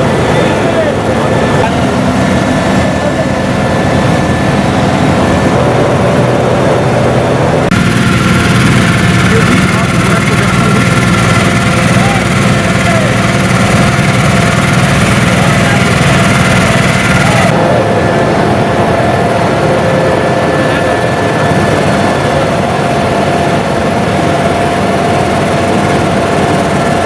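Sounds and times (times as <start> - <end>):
vehicle engines droning: 0.0 - 25.0
spray pumps whining: 0.0 - 27.0.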